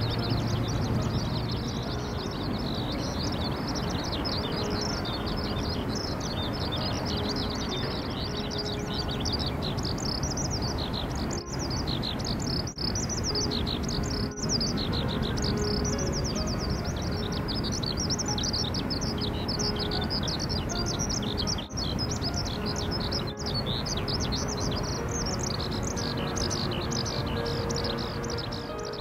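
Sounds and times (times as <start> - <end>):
small birds chirping: 0.0 - 29.0
steady background hiss: 0.0 - 29.0.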